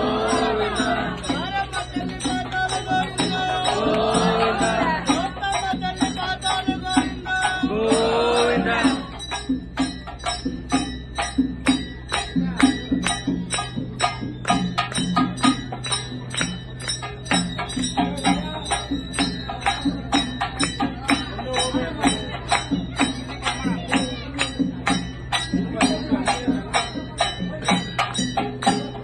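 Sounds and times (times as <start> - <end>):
drum beats: 0.0 - 29.0
ringing metallic strikes: 0.0 - 29.0.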